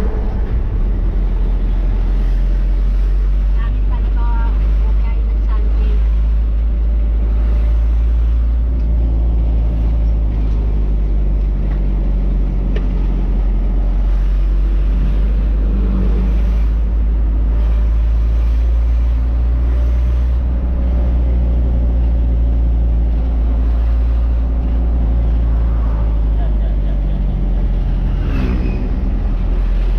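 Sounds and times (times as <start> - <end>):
road rumble: 0.0 - 29.9
truck engine droning: 0.0 - 29.9.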